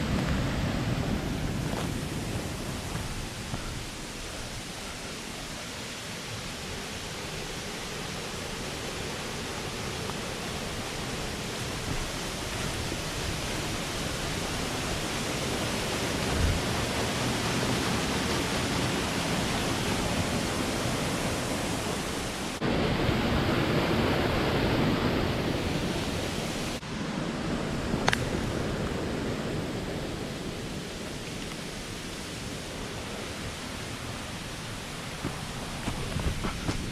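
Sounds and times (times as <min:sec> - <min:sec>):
rush of falling water: 0:00.0 - 0:36.9.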